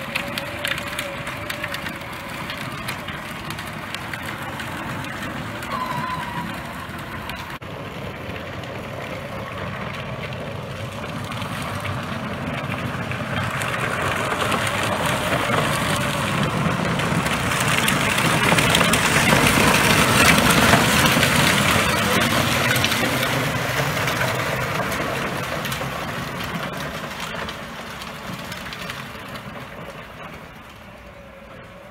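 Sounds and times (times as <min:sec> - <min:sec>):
golf cart motor running: 0:00.0 - 0:31.9
wheels rolling over gravel: 0:00.0 - 0:31.9.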